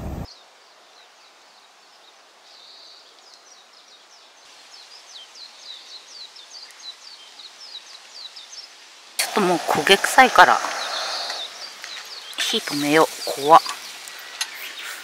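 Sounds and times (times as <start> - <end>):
bird chirping: 0.1 - 15.0.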